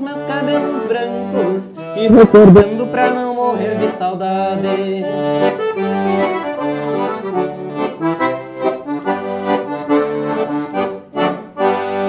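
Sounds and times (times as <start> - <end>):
accordion playing folk music: 0.0 - 12.0.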